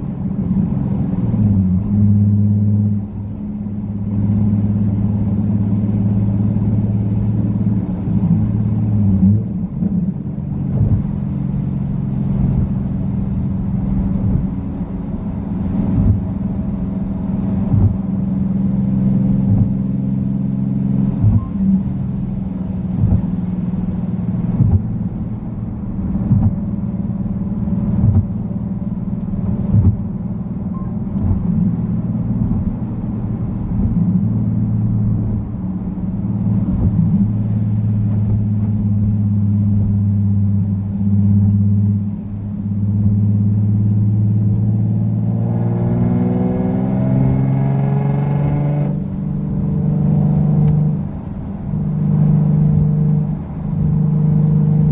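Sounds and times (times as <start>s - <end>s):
car engine running while driving: 0.0s - 54.9s.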